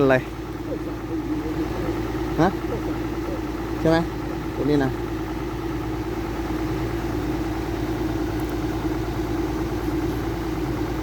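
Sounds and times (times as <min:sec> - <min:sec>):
heavy machine engine idling: 0:00.0 - 0:11.0.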